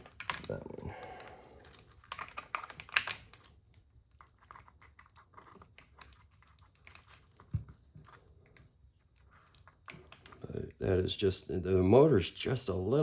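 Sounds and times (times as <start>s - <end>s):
small plastic parts clicking: 0.0s - 10.4s.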